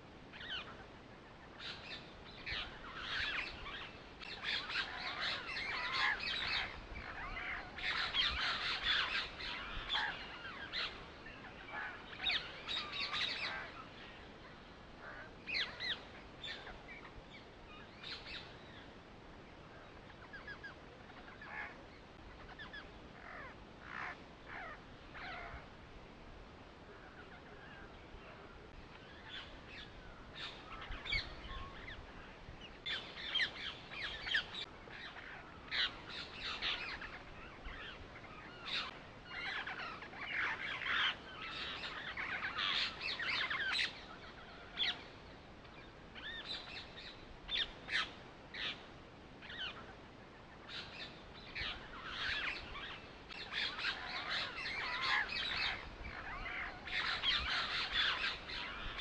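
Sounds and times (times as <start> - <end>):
birds chirping and squawking: 1.5 - 18.9, 20.0 - 25.7, 27.0 - 50.0, 50.6 - 59.0.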